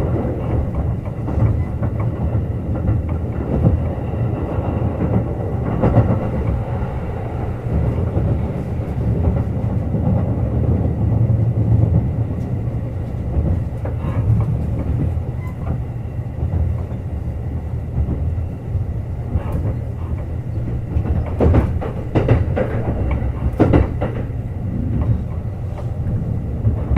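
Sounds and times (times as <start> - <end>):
short clacks of train: 0.0 - 18.4, 19.0 - 26.9
train wheels rumbling on rail: 0.0 - 26.9.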